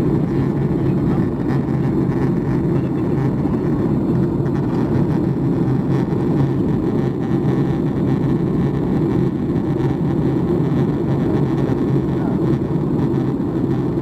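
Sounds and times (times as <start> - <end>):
airflow over fuselage: 0.0 - 14.0
airplane cabin engine hum: 0.0 - 14.0.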